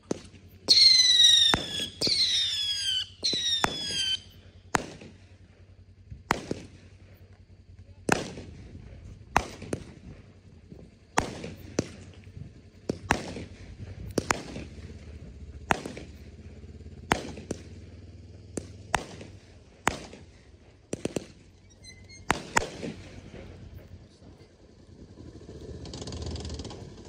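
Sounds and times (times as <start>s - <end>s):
fireworks bursting: 0.0s - 5.5s, 6.2s - 24.0s.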